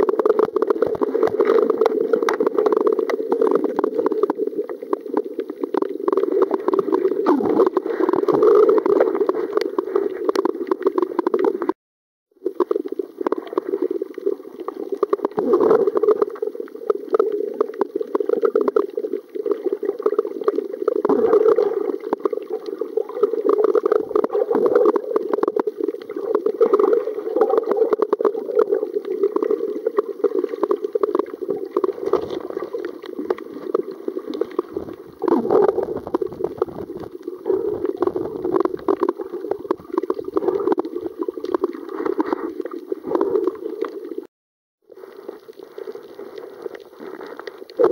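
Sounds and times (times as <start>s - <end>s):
underwater gurgling and bubbling: 0.0s - 11.8s, 12.4s - 44.3s, 44.9s - 47.9s.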